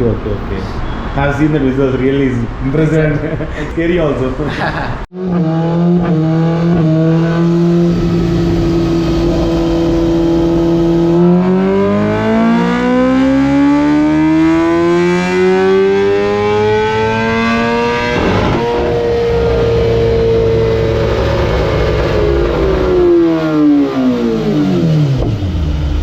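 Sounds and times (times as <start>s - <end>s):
motorcycle engine revving: 5.1s - 26.0s.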